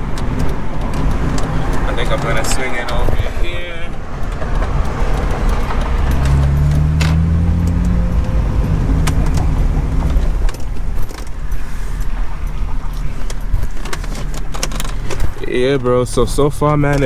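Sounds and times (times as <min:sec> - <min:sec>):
car engine running: 0:00.0 - 0:17.0
clicks and rattles in cabin: 0:00.0 - 0:17.0.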